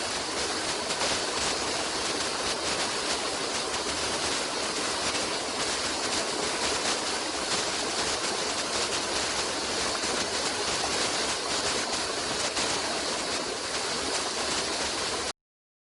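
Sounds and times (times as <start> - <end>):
running water rushing: 0.0 - 15.3.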